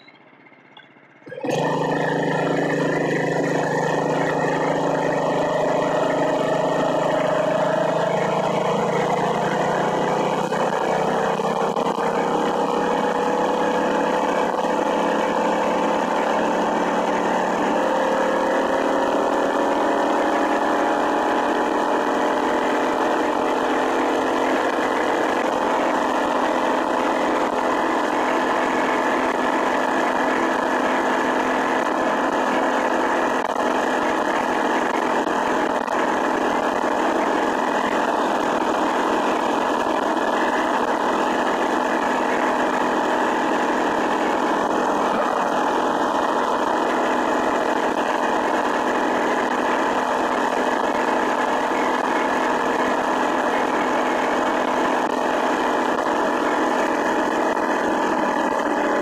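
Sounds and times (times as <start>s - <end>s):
small motorbike engine running: 0.0s - 59.0s.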